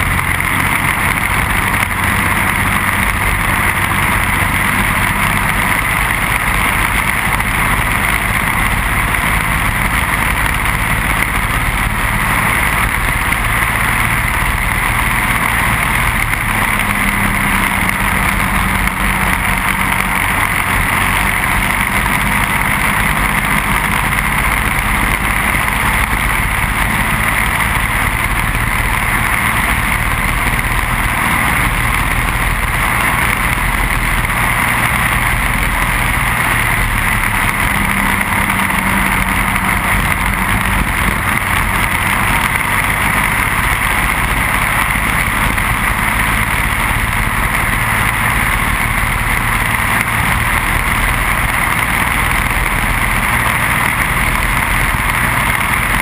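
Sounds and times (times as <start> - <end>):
kart engine running: 0.0 - 56.0.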